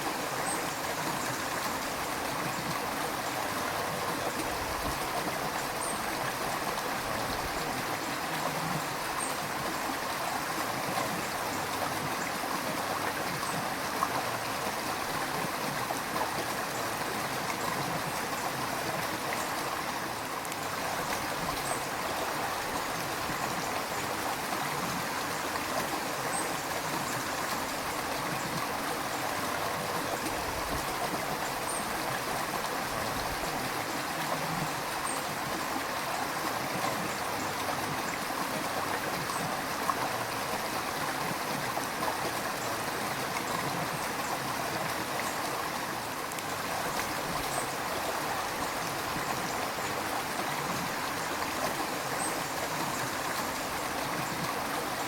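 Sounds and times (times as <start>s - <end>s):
river water rushing and gurgling: 0.0s - 55.0s.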